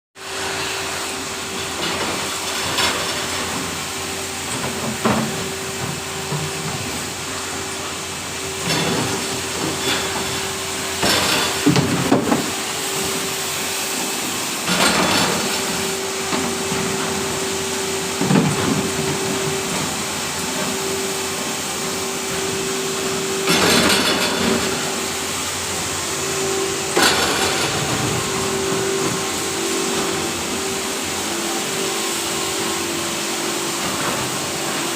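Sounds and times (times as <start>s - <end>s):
washing machine hum: 0.2s - 34.9s.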